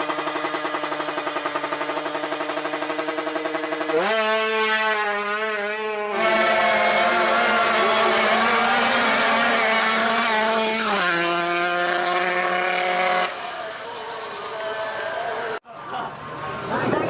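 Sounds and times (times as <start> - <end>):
motorcycle engine at high revs: 0.0 - 15.6.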